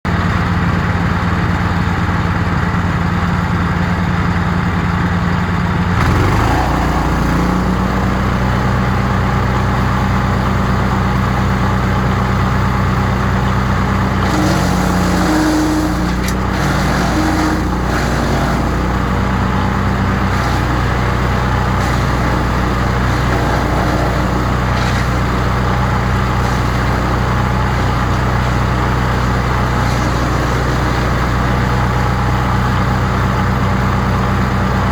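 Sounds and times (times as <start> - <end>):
wood chipper engine running: 0.1 - 34.9.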